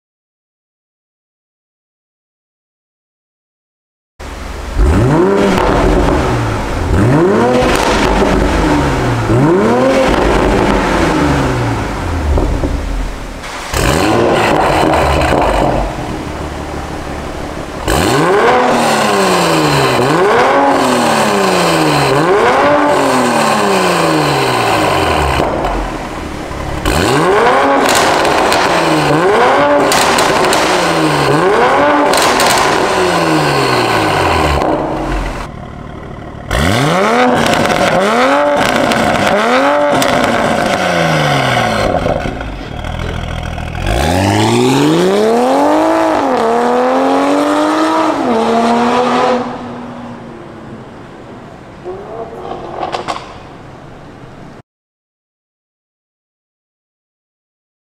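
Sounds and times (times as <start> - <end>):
car engine revving: 4.2 - 54.6.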